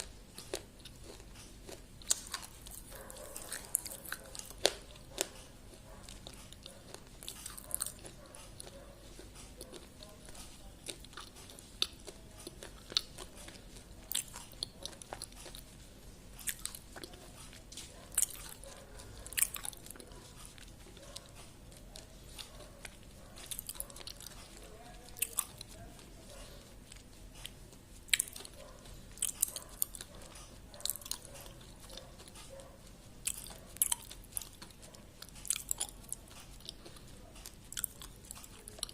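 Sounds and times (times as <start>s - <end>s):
crunchy biting: 0.0s - 38.9s
person chewing: 0.0s - 38.9s.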